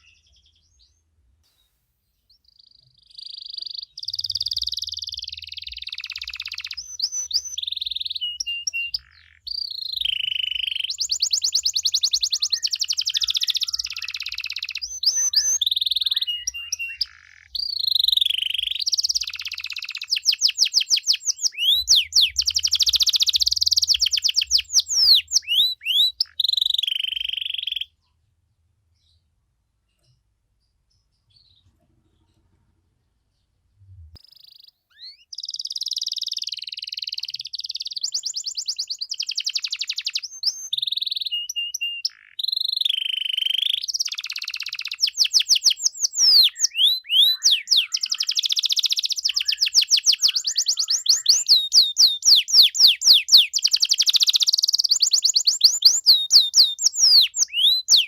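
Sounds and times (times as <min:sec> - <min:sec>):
canary singing: 0:02.3 - 0:28.0, 0:34.1 - 0:58.0.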